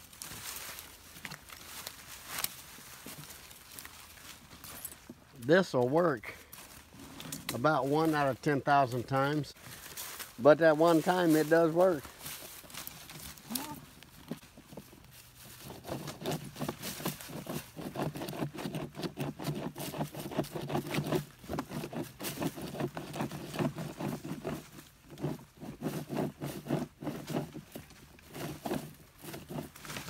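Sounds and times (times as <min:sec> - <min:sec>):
stick scraping inside hollow log: 0:05.0 - 0:30.0.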